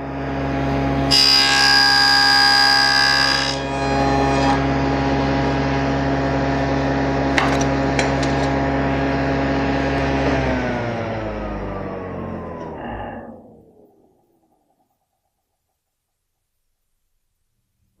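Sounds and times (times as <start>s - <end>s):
table saw whine: 0.0s - 15.1s.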